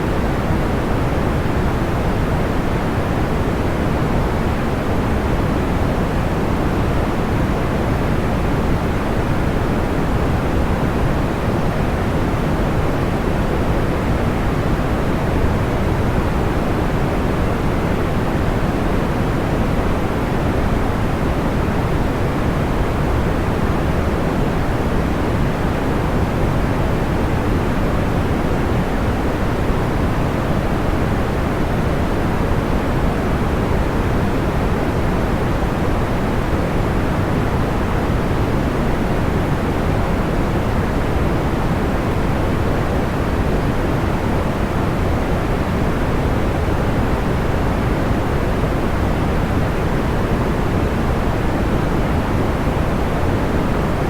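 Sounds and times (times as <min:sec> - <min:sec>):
steady pink noise hiss: 0:00.0 - 0:54.0.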